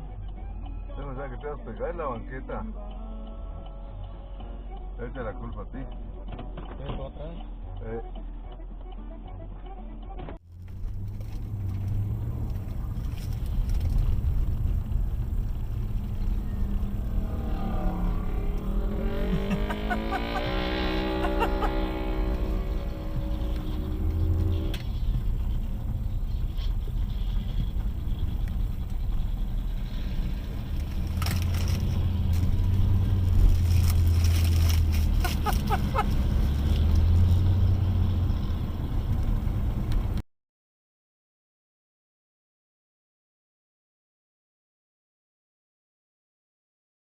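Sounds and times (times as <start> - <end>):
vehicle engine and road rumble: 0.0 - 40.2.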